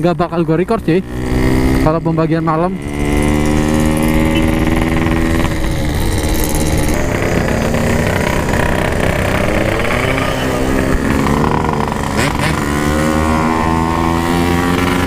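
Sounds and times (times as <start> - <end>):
two-stroke motorcycle engine running: 0.0 - 15.0.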